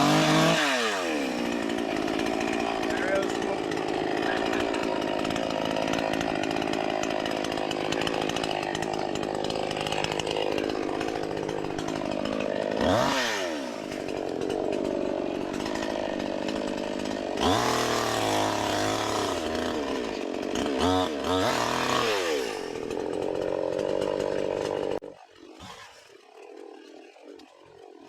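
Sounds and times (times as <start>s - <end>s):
chainsaw running and revving: 0.0s - 28.0s.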